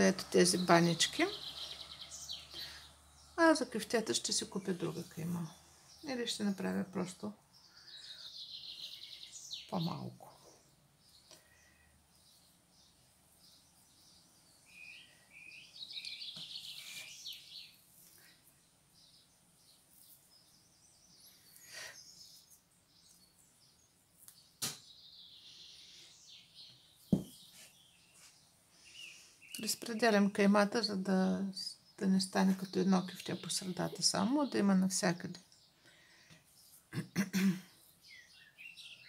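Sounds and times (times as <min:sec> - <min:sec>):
small birds twittering: 0:00.0 - 0:39.0.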